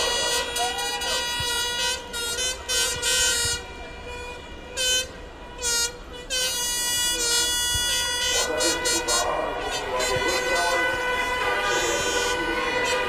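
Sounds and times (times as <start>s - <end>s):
short horn blasts: 0.0s - 13.0s
steady held horn tone: 0.0s - 13.0s.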